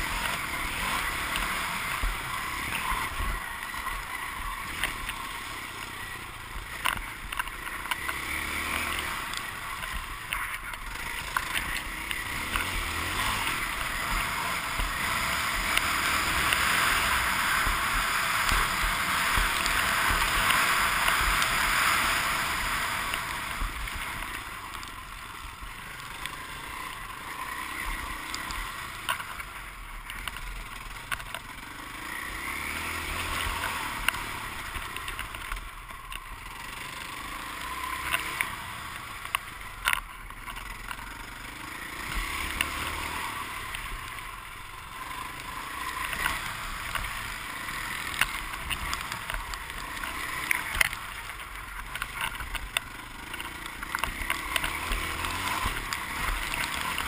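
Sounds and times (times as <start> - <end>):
dirt bike engine revving: 0.0 - 35.6, 40.6 - 57.0.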